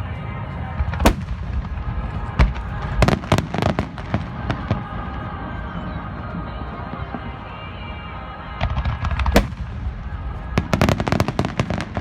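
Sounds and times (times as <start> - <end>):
fireworks crackling: 0.0 - 12.0
fireworks bangs: 0.6 - 7.5, 8.4 - 12.0.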